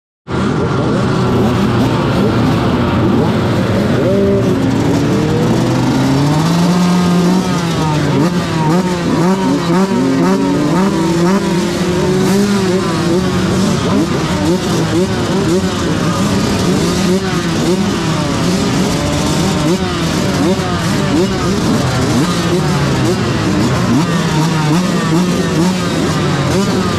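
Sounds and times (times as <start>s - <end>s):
motocross bike engines revving: 0.3s - 26.9s.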